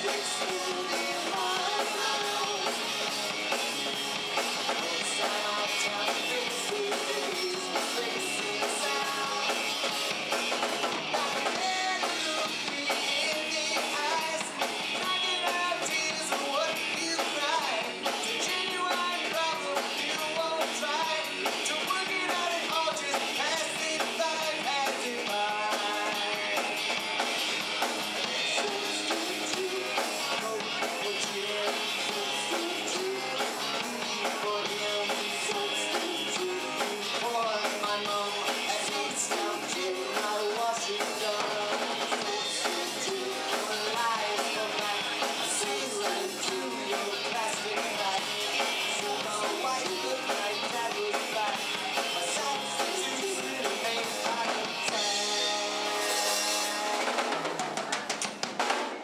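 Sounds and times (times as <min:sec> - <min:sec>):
electric bass guitar: 0:00.0 - 0:57.5
drum kit: 0:00.0 - 0:59.0
electric guitar: 0:00.0 - 0:59.0.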